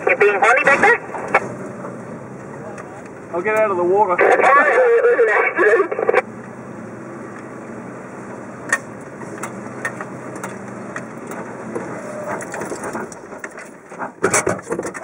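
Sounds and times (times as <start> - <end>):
engine running low: 0.0 - 15.0.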